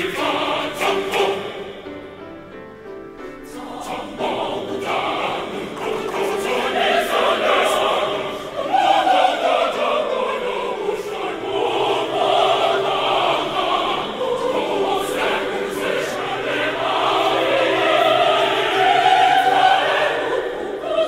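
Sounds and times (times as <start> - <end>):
mixed choir singing in harmony: 0.0 - 21.0.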